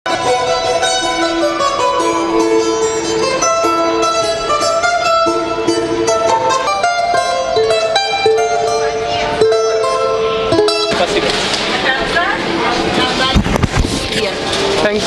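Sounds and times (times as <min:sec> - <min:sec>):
amplified plucked string melody: 0:00.1 - 0:15.0.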